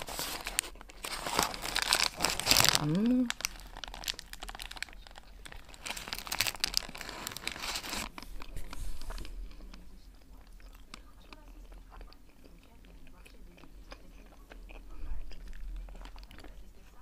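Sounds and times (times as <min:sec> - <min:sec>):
crunching and crinkling bite: 0:00.0 - 0:17.0
quiet chewing: 0:00.0 - 0:17.0.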